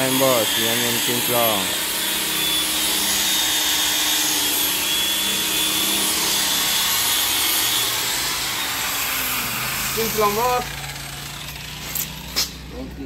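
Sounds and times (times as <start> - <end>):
electric polisher running: 0.0 - 13.0.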